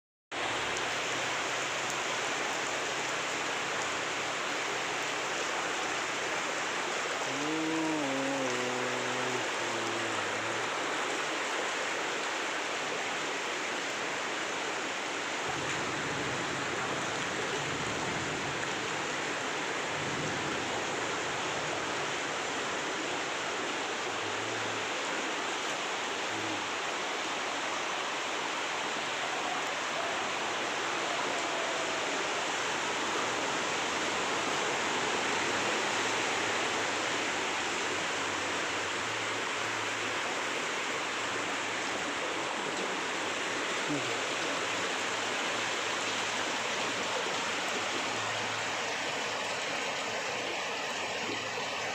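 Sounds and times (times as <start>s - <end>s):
heavy rain pouring: 0.3s - 51.9s.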